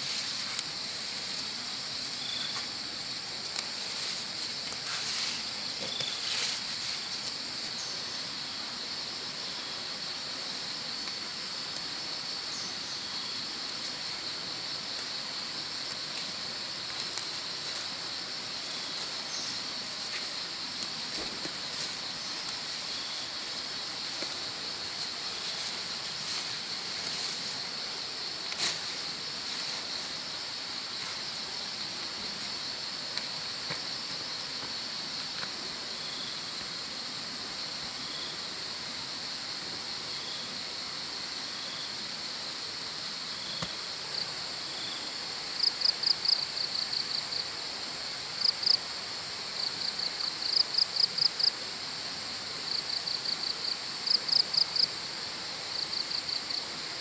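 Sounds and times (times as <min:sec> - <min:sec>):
insects buzzing: 0:00.0 - 0:57.0
outdoor ambience hiss: 0:00.0 - 0:57.0.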